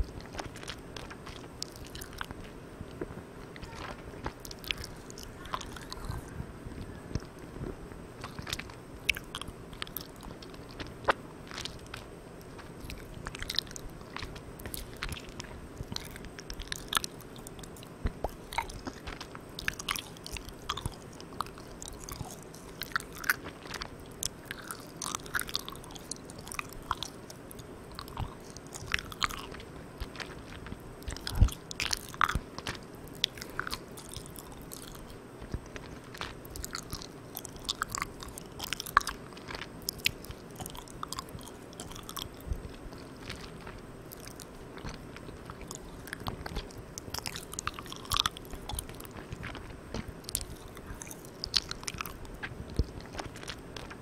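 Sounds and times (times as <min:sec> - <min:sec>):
steady background hiss: 0:00.0 - 0:54.0
wet chewing mouth sounds: 0:00.0 - 0:54.0.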